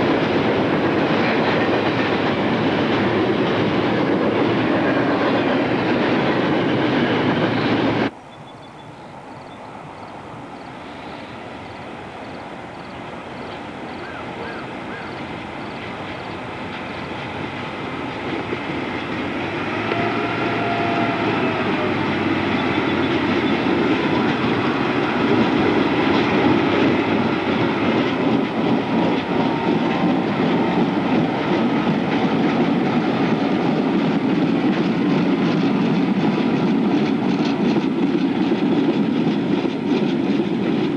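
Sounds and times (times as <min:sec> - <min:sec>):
train rumble and rail noise: 0:00.0 - 0:40.9.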